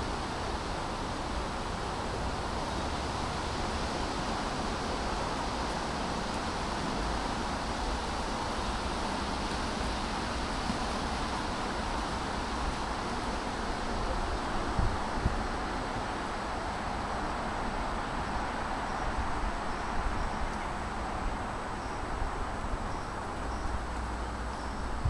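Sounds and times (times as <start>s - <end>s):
outdoor hiss: 0.0s - 25.0s
wind rumbling on microphone: 0.0s - 25.0s.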